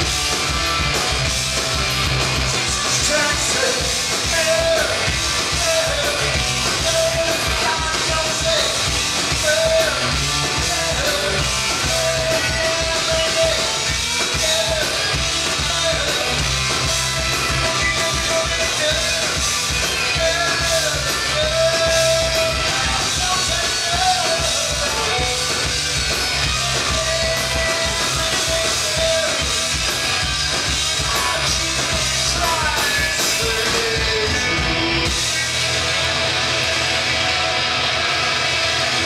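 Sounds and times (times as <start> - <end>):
electric guitars ringing: 0.0 - 39.0
punk rock band playing live: 0.0 - 39.0.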